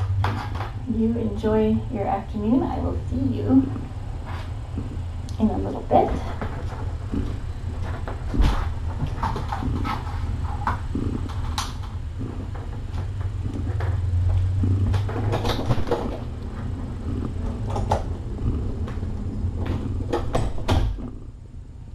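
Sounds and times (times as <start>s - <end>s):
cat purring: 0.0s - 21.9s
kittens suckling clicks and rustles: 0.0s - 21.9s.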